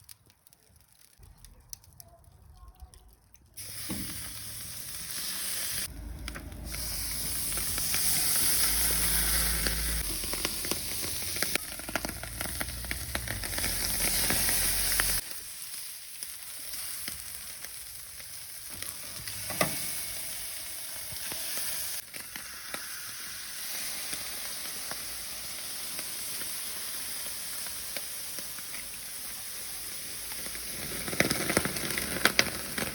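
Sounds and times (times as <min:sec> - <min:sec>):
fish sizzling with small pops: 0:03.4 - 0:32.9.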